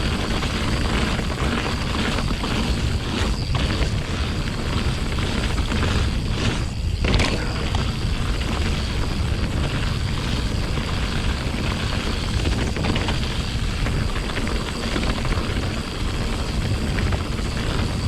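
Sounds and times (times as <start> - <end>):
bike rattling over ground: 0.0 - 18.0
bike tyres rolling: 0.0 - 18.0
sharp clatter: 0.0 - 18.0
wind rumble on microphone: 0.0 - 18.0.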